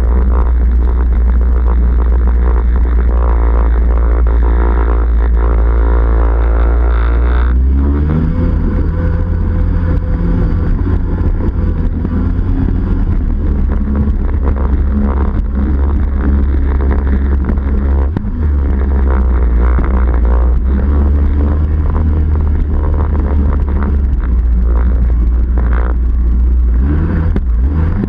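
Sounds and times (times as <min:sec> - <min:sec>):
two-stroke watercraft engine running: 0:00.0 - 0:28.0.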